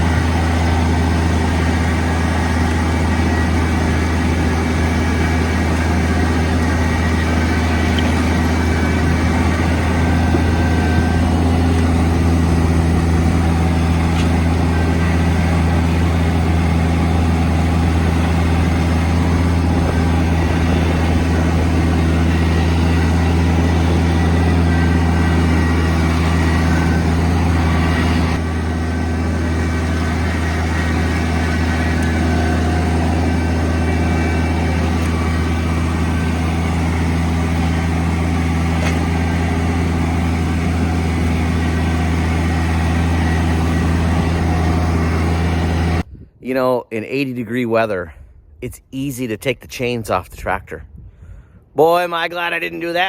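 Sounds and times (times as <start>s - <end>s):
tractor engine running: 0.0s - 46.3s.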